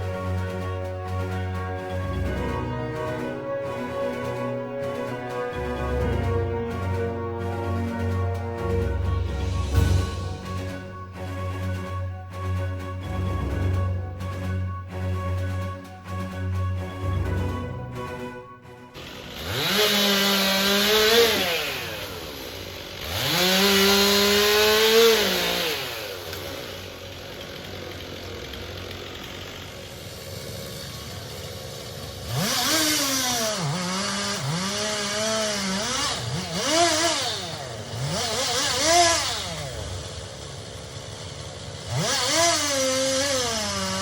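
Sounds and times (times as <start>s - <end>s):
chainsaw revving: 0.0s - 11.9s, 18.9s - 44.0s.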